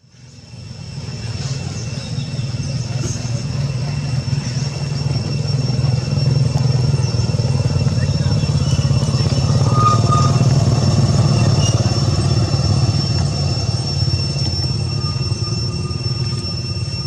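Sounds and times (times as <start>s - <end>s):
low engine rumble: 0.0s - 17.0s
faint chirps: 0.1s - 17.0s
thin high steady tones: 0.1s - 17.0s.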